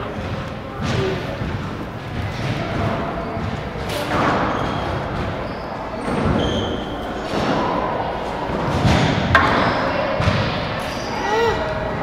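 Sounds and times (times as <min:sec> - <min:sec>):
squash ball hitting racket and walls: 0:00.0 - 0:12.0.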